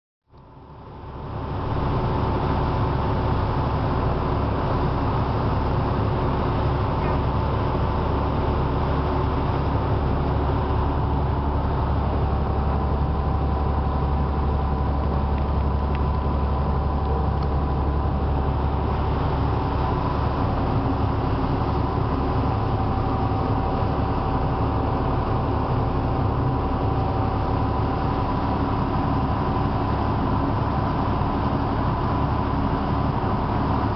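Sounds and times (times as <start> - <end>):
high engine whine: 0.3 - 33.9
ferry engine droning: 0.4 - 33.9.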